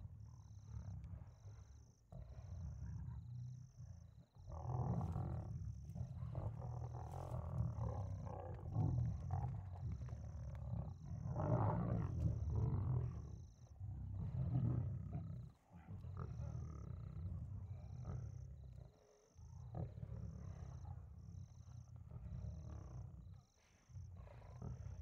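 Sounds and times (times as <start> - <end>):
lions growling: 0.1 - 25.0.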